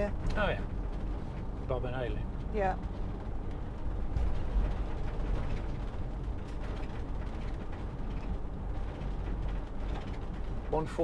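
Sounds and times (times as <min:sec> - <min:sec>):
body creaks and rattles: 0:00.0 - 0:11.0
engine and tyre rumble: 0:00.0 - 0:11.0.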